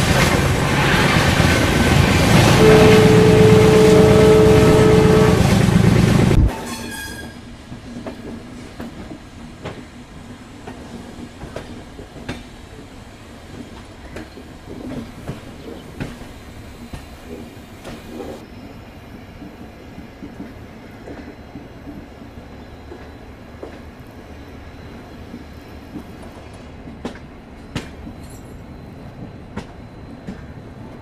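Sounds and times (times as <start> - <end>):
train coaches rumbling: 0.0 - 31.0.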